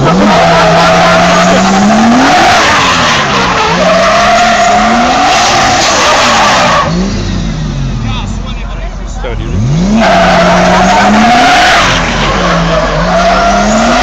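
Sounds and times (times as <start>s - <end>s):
tyres screeching: 0.0s - 8.0s, 9.4s - 14.0s
car engine revving: 0.0s - 14.0s.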